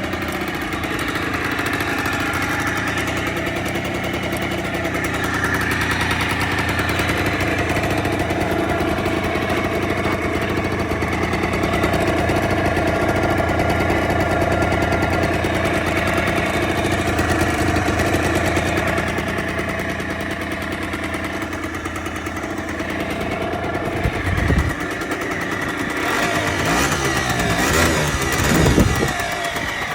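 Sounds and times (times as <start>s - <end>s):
scooter engine idling: 0.0s - 29.9s.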